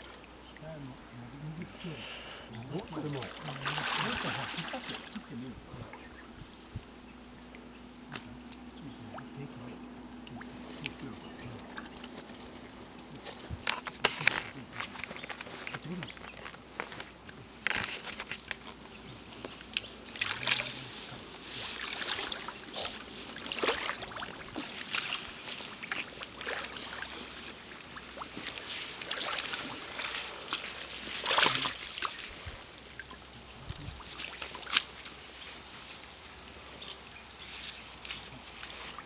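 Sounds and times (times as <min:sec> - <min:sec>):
pond water splashing: 0:01.4 - 0:39.0.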